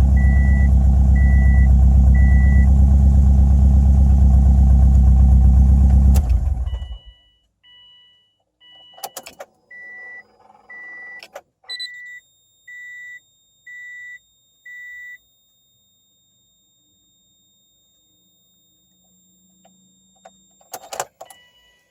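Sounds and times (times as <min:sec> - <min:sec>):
car warning chime beeps: 0:00.1 - 0:02.8, 0:06.4 - 0:21.9.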